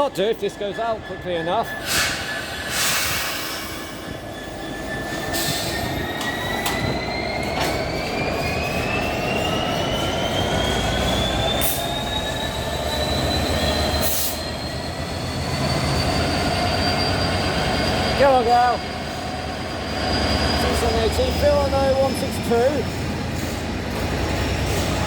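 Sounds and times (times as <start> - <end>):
train low rumble: 0.0 - 25.0
train whine rising in pitch: 0.0 - 25.0.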